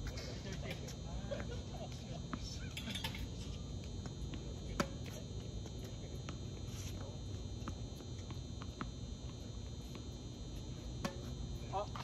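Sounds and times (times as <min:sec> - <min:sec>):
faint high hum: 0:00.0 - 0:12.0.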